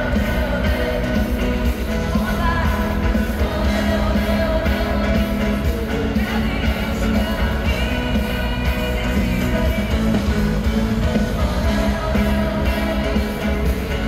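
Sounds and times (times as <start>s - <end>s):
drums: 0.0s - 14.0s
electric guitars: 0.0s - 14.0s
keyboards: 0.0s - 14.0s
woman singing: 0.0s - 14.0s.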